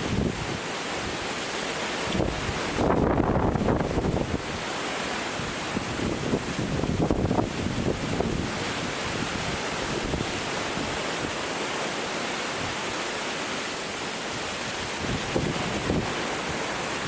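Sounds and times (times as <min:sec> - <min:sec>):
strong wind through bamboo: 0:00.0 - 0:17.0.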